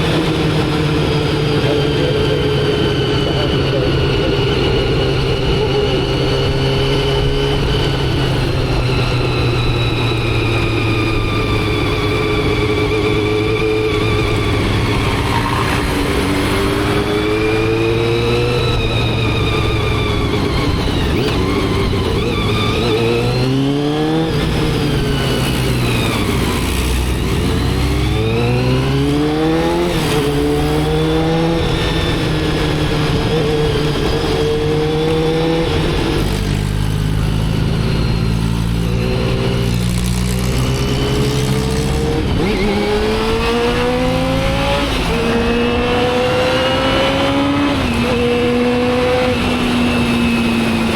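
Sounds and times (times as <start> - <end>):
motorcycle engine shifting gears: 0.0 - 50.9.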